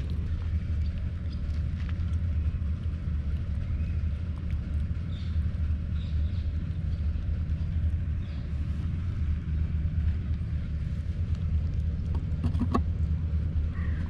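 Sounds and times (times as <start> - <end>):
kitten eating wet food: 0.0 - 13.7
low outdoor rumble: 0.0 - 14.0.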